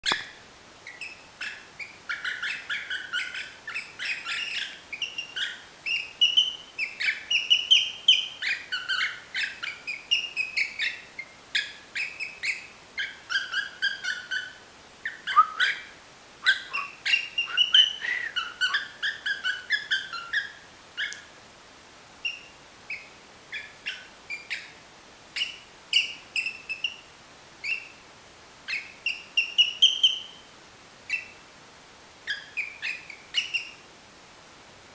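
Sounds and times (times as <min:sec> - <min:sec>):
cockatiel whistling and chirping: 0:00.9 - 0:21.3, 0:22.2 - 0:24.7, 0:25.4 - 0:27.0, 0:27.6 - 0:28.0, 0:28.7 - 0:30.4, 0:31.1 - 0:31.4, 0:32.3 - 0:33.8.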